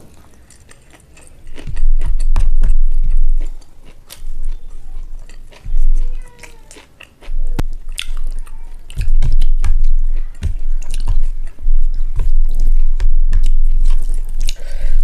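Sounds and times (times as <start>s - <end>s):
close chewing and biting: 0.0s - 15.0s.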